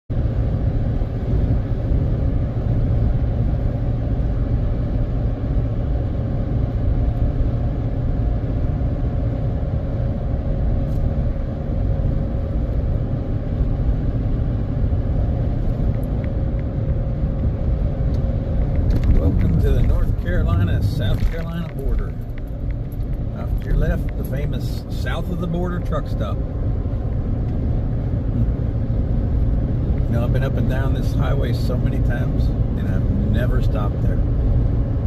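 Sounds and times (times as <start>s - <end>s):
vehicle cruising on highway: 0.1s - 35.0s.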